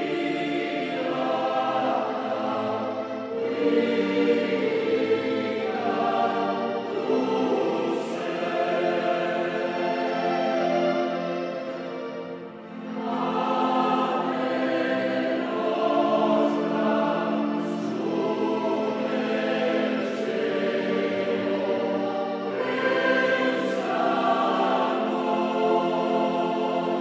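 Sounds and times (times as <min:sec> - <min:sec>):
choir singing sustained chords: 0:00.0 - 0:27.0.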